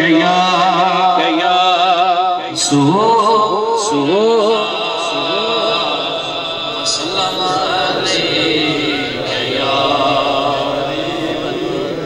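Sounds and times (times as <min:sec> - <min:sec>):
man singing through microphone: 0:00.0 - 0:12.0.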